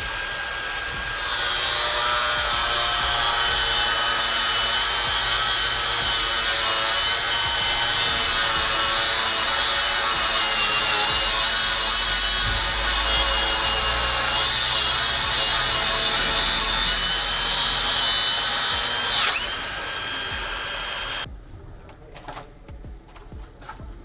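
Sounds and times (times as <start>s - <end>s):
power tool cutting: 0.0s - 21.3s.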